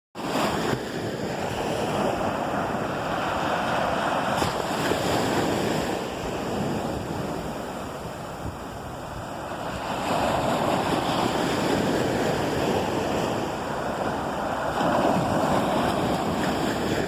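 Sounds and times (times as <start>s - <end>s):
ocean surf washing onto beach: 0.2s - 17.0s
wind buffeting microphone: 0.2s - 17.0s.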